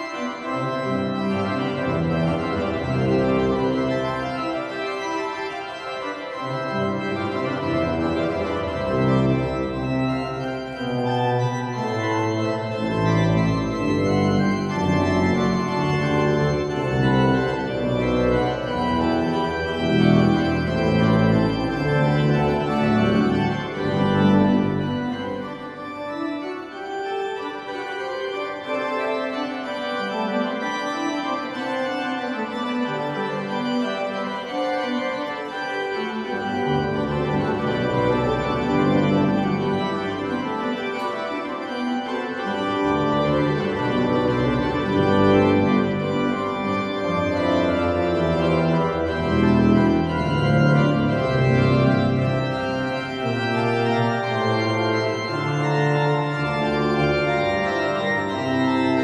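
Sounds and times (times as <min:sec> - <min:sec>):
organ chords: 0:00.0 - 0:59.0
organ bass line: 0:00.1 - 0:26.4, 0:36.0 - 0:59.0.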